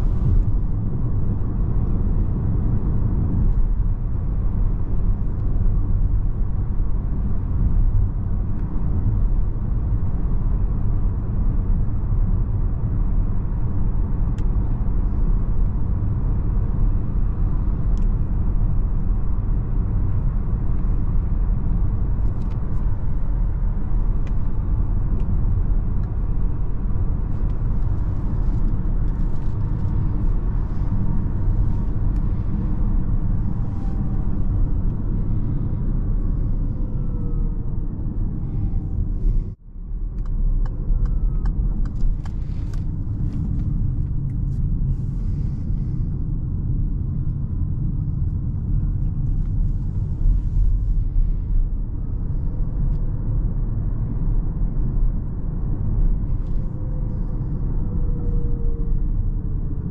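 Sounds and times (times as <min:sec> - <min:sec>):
tyre and road rumble: 0:00.0 - 0:59.9.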